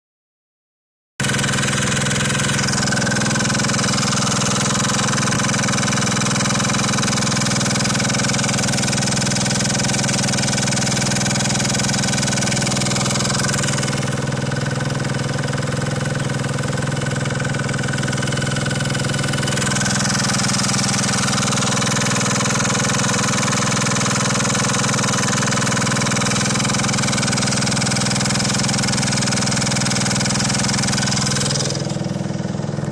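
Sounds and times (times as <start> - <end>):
loud engine knocking: 1.2 - 32.9
scooter engine idling: 1.2 - 32.9.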